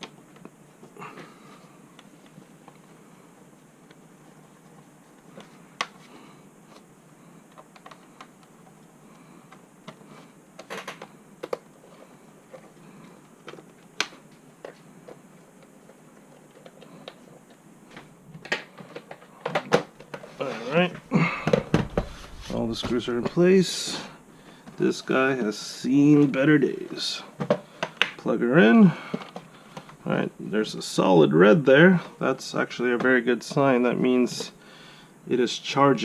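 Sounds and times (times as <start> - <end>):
low hiss: 0.0 - 36.0.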